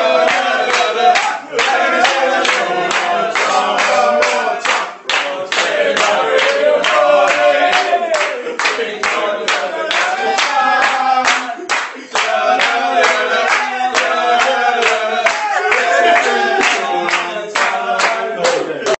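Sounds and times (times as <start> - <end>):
men singing together: 0.0 - 19.0
rhythmic hand clapping: 0.0 - 19.0.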